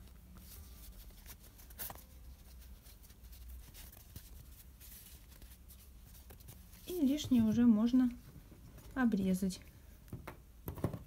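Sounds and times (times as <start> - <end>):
yarn rustling and scratching: 0.0 - 9.1.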